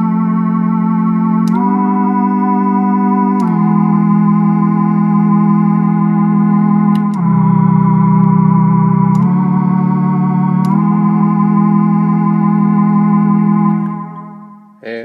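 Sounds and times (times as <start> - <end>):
buzzy synthesizer chord: 0.0 - 15.0.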